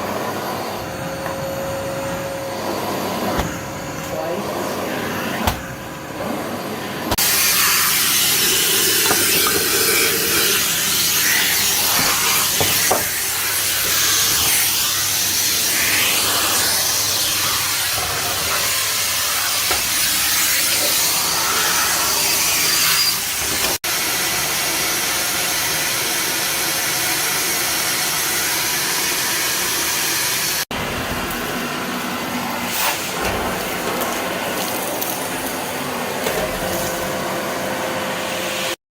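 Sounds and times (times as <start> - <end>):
vacuum cleaner running: 0.0 - 38.8.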